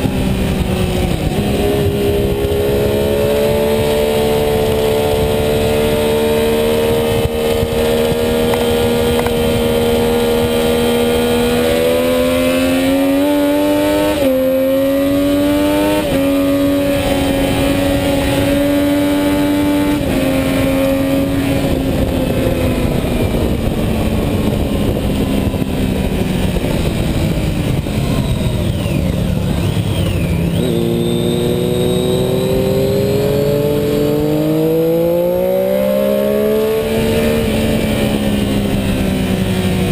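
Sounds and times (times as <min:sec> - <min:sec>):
motorcycle engine at high revs: 0:00.0 - 0:39.9
wind rush: 0:00.0 - 0:39.9.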